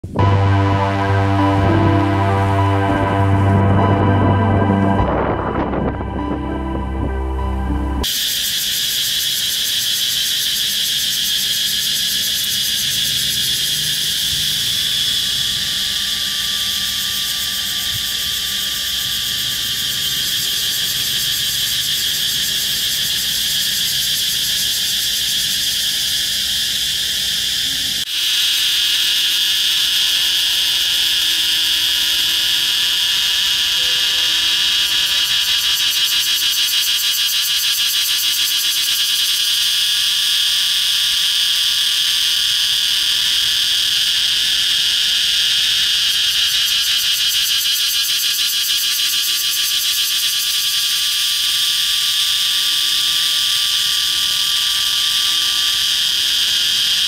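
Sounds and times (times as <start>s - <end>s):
cicada buzzing: 8.0s - 57.0s.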